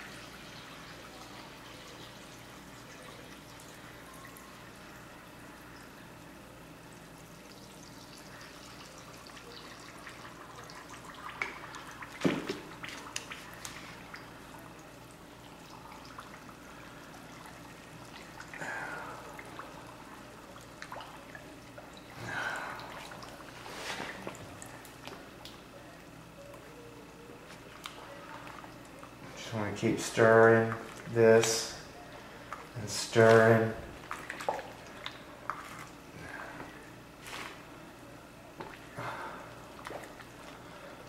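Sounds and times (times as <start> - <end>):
faint splashing and sloshing: 0.0 - 41.0.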